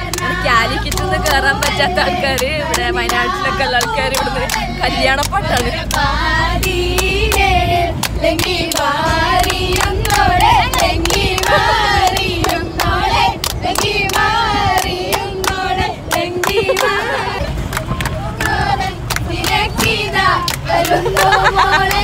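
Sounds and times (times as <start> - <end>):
people clapping in rhythm: 0.0 - 22.0
vehicle rumble: 0.0 - 22.0
women singing together: 0.0 - 22.0.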